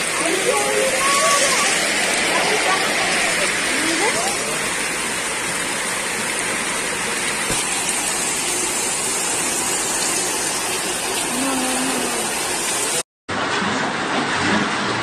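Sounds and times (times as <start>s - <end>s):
floodwater rushing: 0.0s - 13.0s
heavy rain falling: 0.0s - 15.0s.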